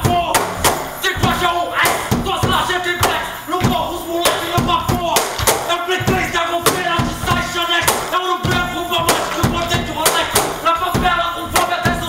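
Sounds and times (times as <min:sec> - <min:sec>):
music with steady percussive beat: 0:00.0 - 0:12.0.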